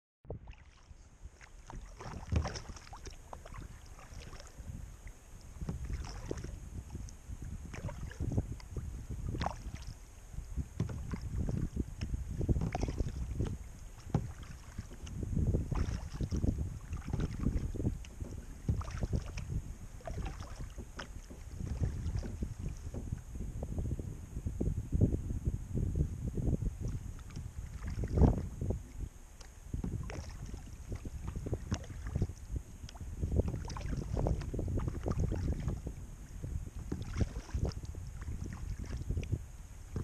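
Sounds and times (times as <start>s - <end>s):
wind rumble on microphone: 0.2s - 40.0s
paddle splashes and drips: 0.3s - 23.3s, 26.8s - 40.0s.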